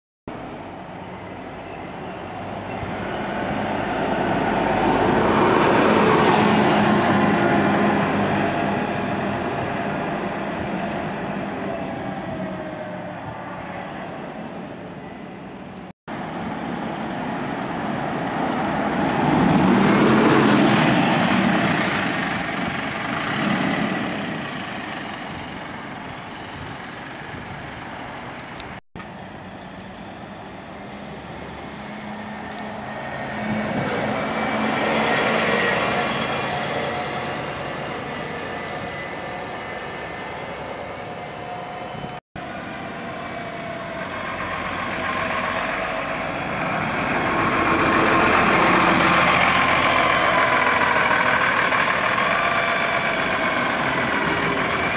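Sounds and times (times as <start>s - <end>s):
diesel buses driving past: 0.3s - 54.9s.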